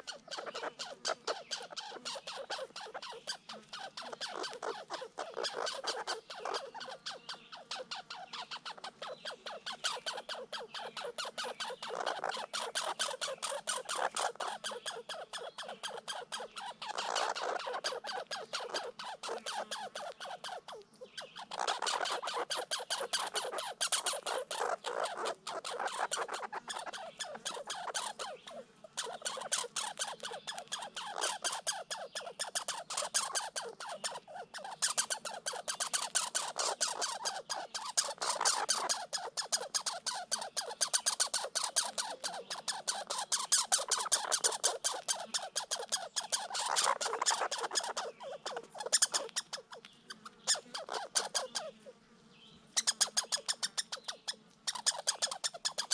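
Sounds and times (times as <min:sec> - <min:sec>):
squirrels chattering: 0:00.0 - 0:55.9.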